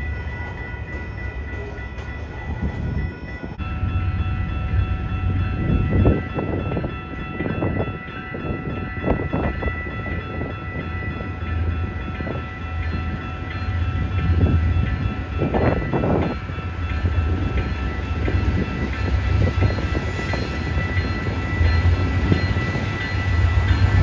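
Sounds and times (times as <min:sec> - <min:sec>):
diesel locomotive engine rumble: 0:00.0 - 0:24.0
steady high tone: 0:00.0 - 0:24.0
train rolling on rails: 0:00.0 - 0:24.0.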